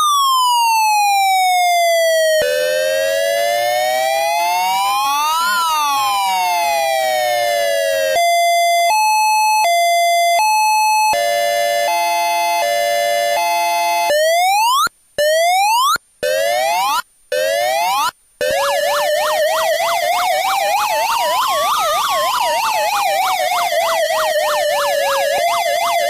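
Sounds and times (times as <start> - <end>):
police siren cycling tones: 0.0 - 26.0.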